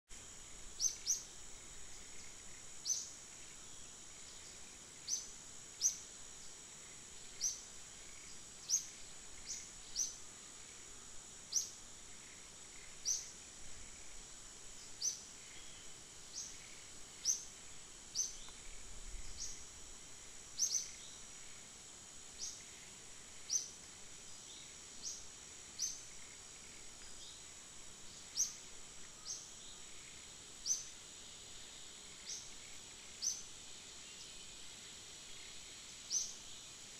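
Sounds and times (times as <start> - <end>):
high insect drone: 0.1 - 36.9.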